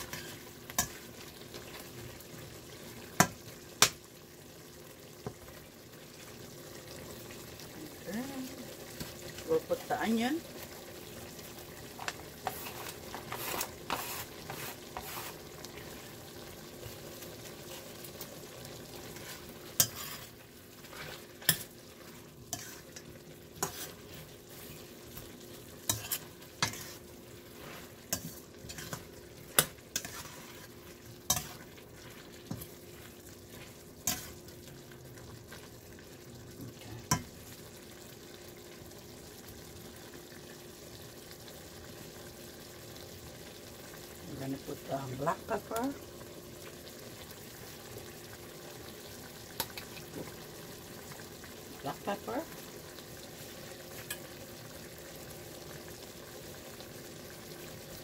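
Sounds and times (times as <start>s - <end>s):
chicken and onion sizzling: 0.0s - 58.0s.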